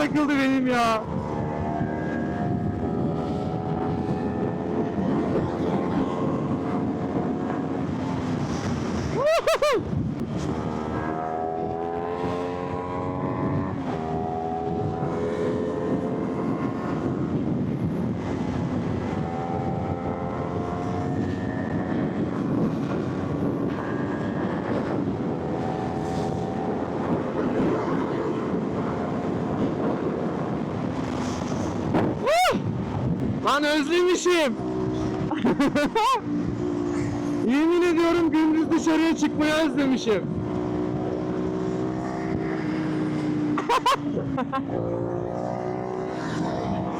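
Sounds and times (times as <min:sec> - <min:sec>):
motorcycle engine revving: 0:00.0 - 0:09.2, 0:10.1 - 0:33.5, 0:34.3 - 0:46.9
wind rush: 0:00.0 - 0:46.9.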